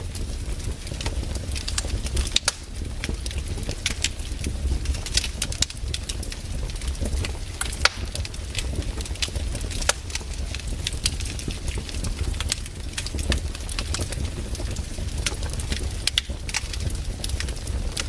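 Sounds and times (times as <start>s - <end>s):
campfire crackling and popping: 0.0s - 18.0s
low rumble of flames: 0.0s - 18.0s.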